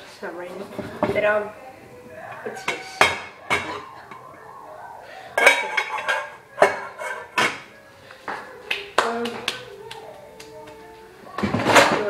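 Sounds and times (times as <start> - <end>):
dishes and cutlery clattering: 0.6 - 4.5, 5.1 - 12.0.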